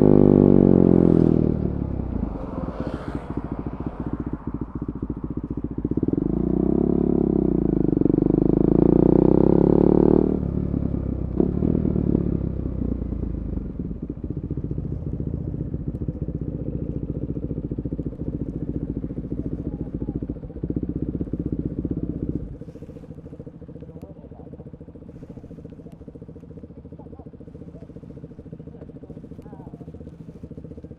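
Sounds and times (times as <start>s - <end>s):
exhaust crackles: 0.0s - 9.6s, 10.2s - 30.9s
motorcycle engine idling: 0.0s - 30.9s
motorcycle engine revving: 0.0s - 30.9s.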